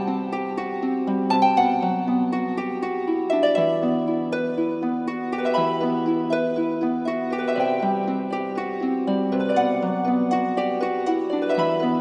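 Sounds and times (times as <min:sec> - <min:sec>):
plucked string instrumental music: 0:00.0 - 0:12.0.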